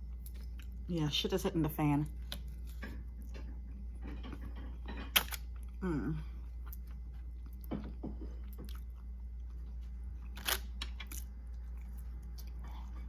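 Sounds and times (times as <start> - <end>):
person chewing food: 0.0 - 0.9, 2.2 - 13.0.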